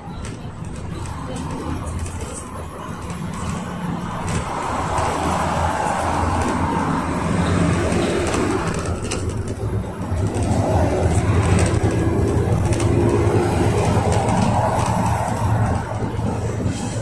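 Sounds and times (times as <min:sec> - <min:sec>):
diesel engine drone: 0:00.0 - 0:17.0
light cabin rattles: 0:00.0 - 0:17.0
road and tyre noise: 0:00.0 - 0:17.0.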